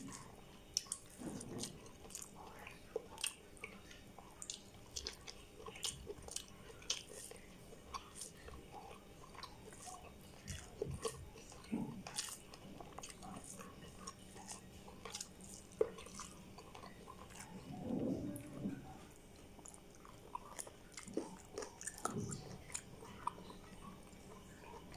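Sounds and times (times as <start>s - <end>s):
person chewing and smacking: 0.0s - 24.9s.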